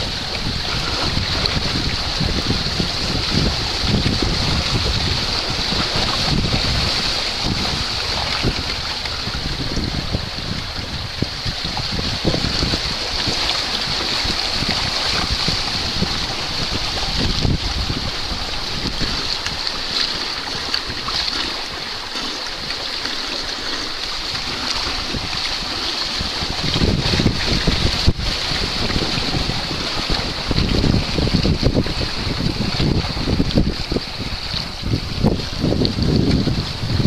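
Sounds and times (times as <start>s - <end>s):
water rushing along hull: 0.0s - 37.0s
wind buffeting microphone: 0.0s - 37.0s.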